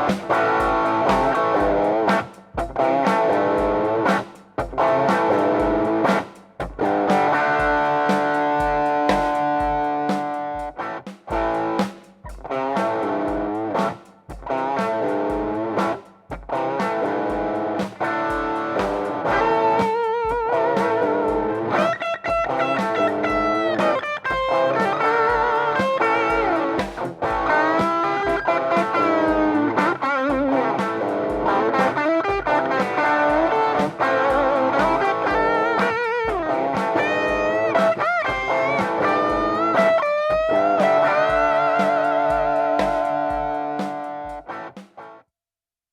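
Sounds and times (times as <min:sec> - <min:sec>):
electric guitar lead line: 0:00.0 - 0:45.2.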